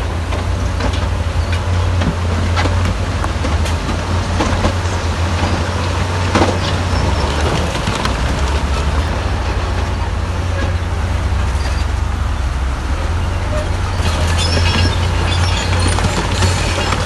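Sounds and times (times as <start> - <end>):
diesel construction machinery running: 0.0 - 17.0.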